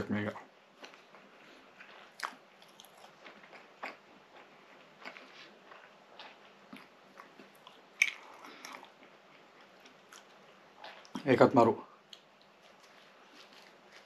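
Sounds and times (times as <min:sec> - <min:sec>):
person chewing soft pastry: 0:00.6 - 0:11.3, 0:12.0 - 0:14.0.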